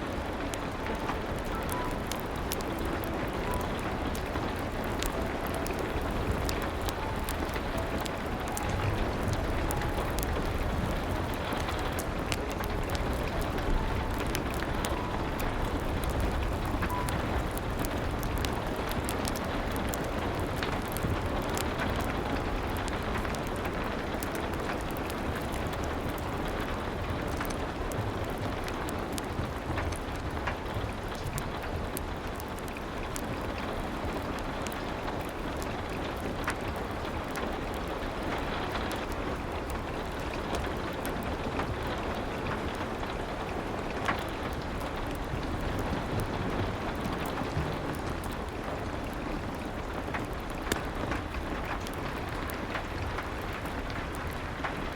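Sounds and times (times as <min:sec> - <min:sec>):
sharp crackles and pops: 0:00.0 - 0:54.9
steady rain: 0:00.0 - 0:54.9.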